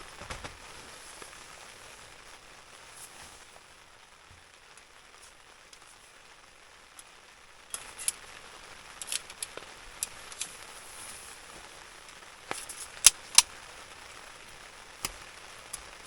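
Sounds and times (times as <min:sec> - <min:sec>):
steady soft hiss: 0:00.0 - 0:16.0.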